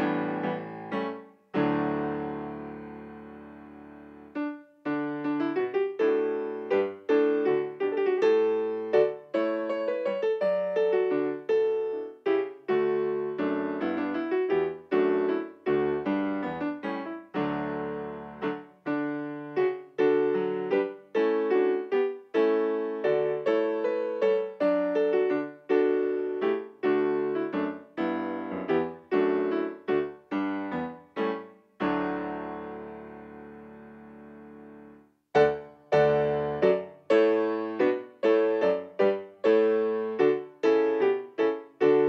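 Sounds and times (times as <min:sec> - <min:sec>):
digital piano chords: 0:00.0 - 0:42.0.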